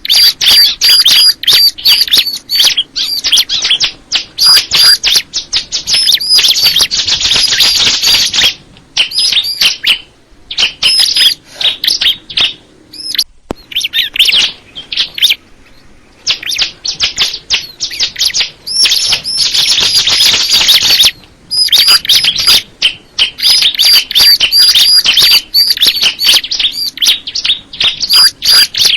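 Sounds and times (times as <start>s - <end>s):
songbird singing high sharp notes: 0.0s - 28.9s.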